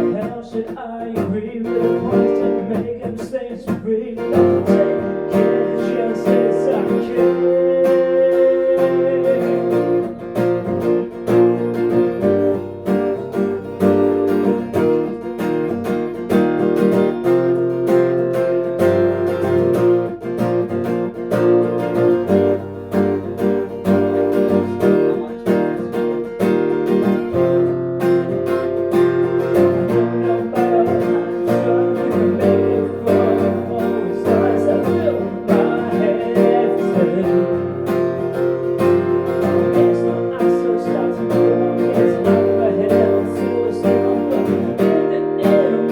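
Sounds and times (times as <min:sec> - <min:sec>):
acoustic guitar strumming: 0:00.0 - 0:45.9.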